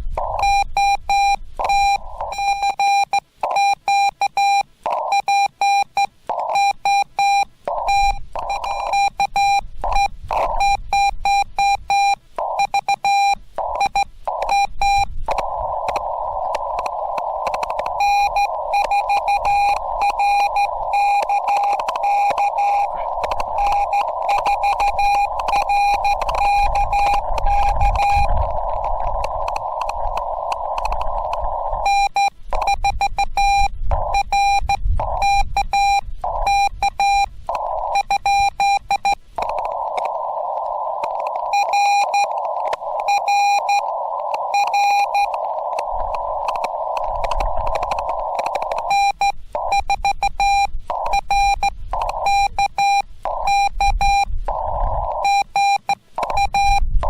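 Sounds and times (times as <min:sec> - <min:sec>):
morse code tone: 0:00.0 - 0:56.9
radio receiver hiss: 0:00.0 - 0:57.0
distant morse code signal: 0:00.2 - 0:56.9.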